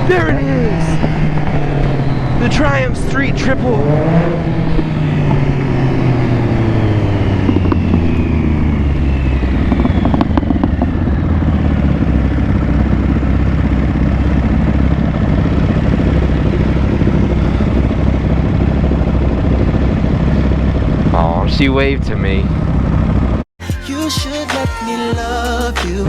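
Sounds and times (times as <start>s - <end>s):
passing motorcycle engine: 0.0s - 23.4s
wind and road noise: 0.0s - 23.5s
motorcycle engine running: 0.0s - 26.0s.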